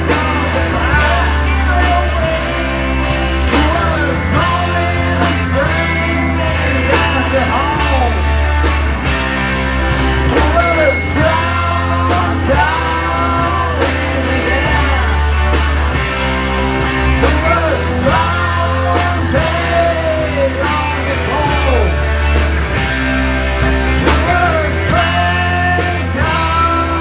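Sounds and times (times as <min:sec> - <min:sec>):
heavy bass: 0:00.0 - 0:27.0
rock band playing: 0:00.0 - 0:27.0.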